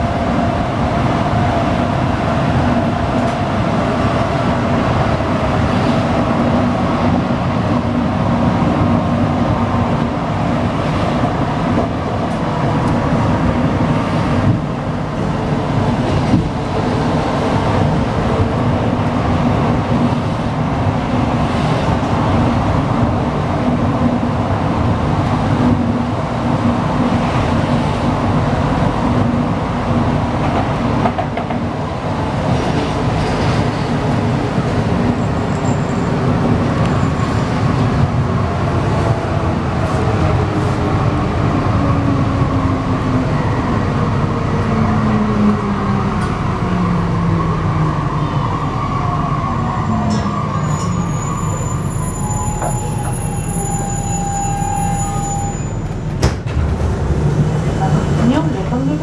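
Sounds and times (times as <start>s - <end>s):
metro train rumble: 0.0s - 59.0s.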